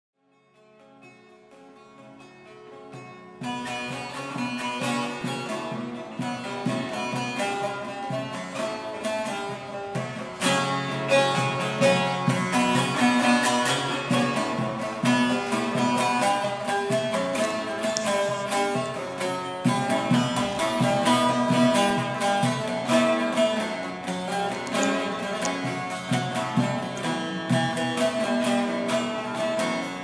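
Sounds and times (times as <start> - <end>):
plucked lutes playing: 0.4 - 30.0.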